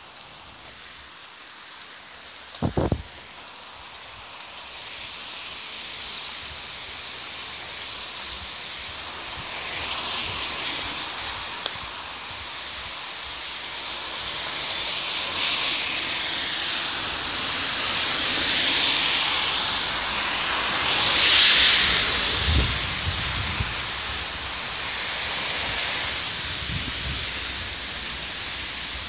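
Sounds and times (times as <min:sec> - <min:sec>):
rain on a wet street: 0:00.0 - 0:29.0.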